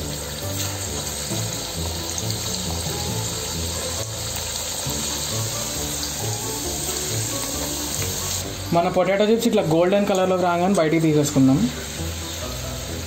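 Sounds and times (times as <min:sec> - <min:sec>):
background music: 0:00.0 - 0:13.0
potatoes sizzling in hot oil: 0:00.0 - 0:13.0.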